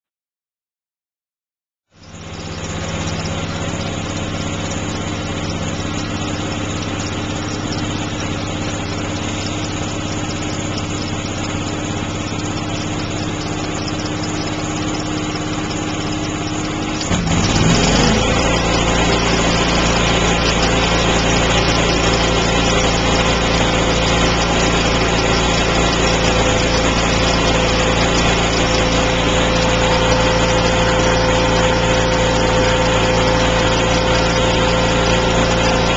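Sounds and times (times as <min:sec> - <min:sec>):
welding machine engine running: 0:01.9 - 0:35.9.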